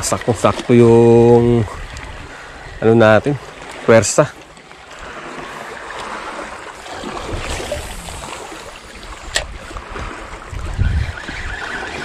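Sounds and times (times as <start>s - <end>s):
sea water sloshing: 0.0s - 12.0s.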